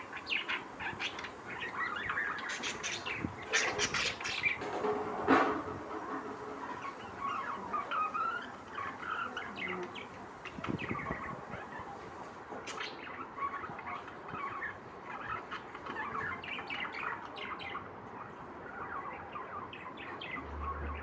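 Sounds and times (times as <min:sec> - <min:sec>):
lovebirds chirping: 0:00.0 - 0:04.7, 0:06.3 - 0:21.0.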